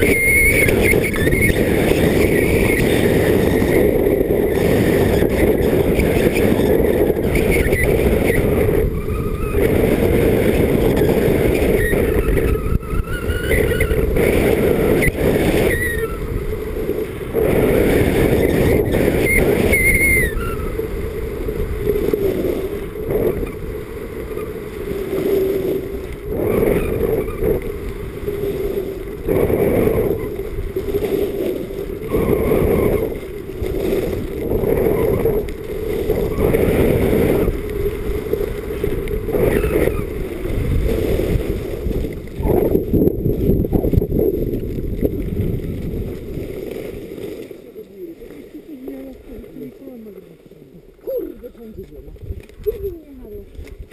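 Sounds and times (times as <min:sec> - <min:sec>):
skis scraping over snow: 0:00.0 - 0:53.9
wind buffeting microphone: 0:00.0 - 0:53.9.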